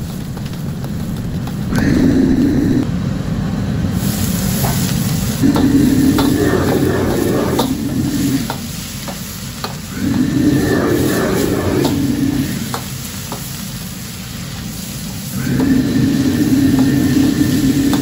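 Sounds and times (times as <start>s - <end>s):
food sizzling: 0.0s - 2.8s, 4.0s - 18.0s
gas burner flame rushing: 0.0s - 18.0s.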